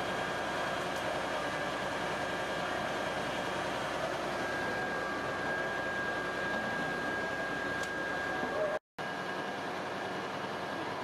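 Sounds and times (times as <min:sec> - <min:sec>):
thin steady high tone: 0:01.8 - 0:11.0.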